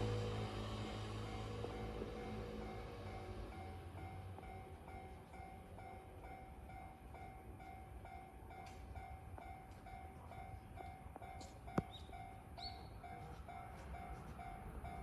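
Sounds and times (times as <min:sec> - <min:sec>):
railroad crossing alarm dinging: 0:00.0 - 0:15.0.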